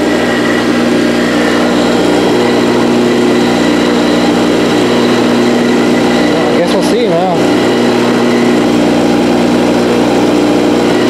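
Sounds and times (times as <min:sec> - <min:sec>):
air compressor buzzing: 0:00.0 - 0:11.0
router spindle milling wood: 0:00.0 - 0:11.0.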